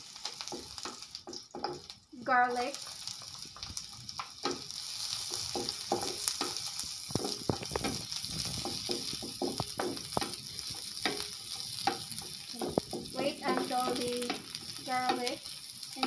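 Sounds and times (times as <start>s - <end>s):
onion and garlic sizzling in oil: 0.0s - 16.0s
wooden spatula knocking a pan: 0.4s - 1.9s, 3.5s - 16.0s.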